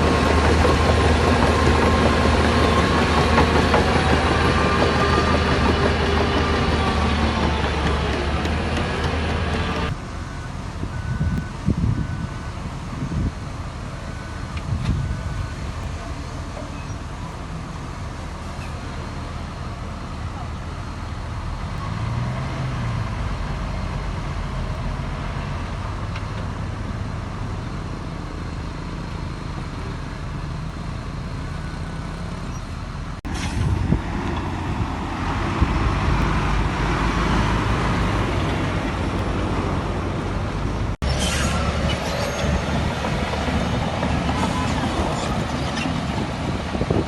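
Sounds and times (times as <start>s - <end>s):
diesel machinery engines running: 0.0s - 47.0s.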